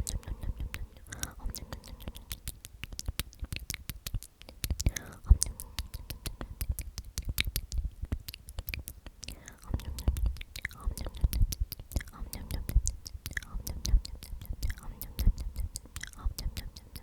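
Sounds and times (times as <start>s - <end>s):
person whispering: 0.0s - 3.7s, 4.4s - 6.9s, 8.6s - 17.0s
wet mouth clicks and lip smacks: 0.0s - 17.0s.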